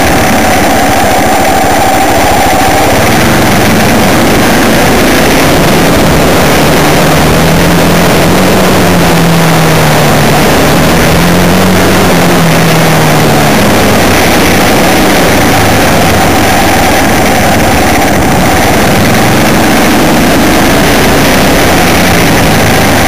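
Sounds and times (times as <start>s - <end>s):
vehicle engine running: 0.0s - 23.0s
wind and road noise: 0.0s - 23.0s.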